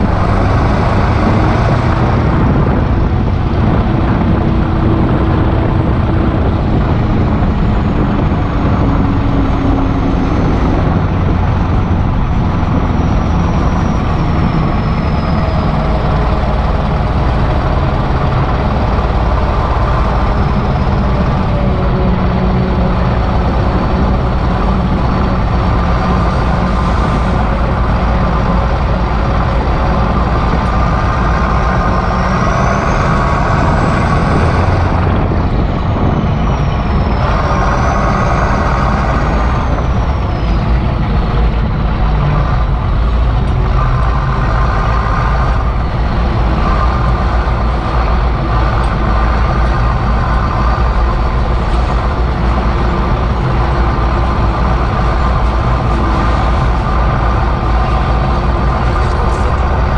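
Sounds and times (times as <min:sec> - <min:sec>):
tractor diesel engine rumbling: 0:00.0 - 0:59.9.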